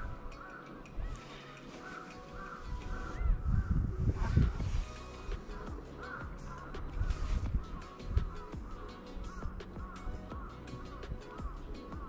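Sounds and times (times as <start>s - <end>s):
birds calling: 0.0s - 3.8s, 4.6s - 12.0s.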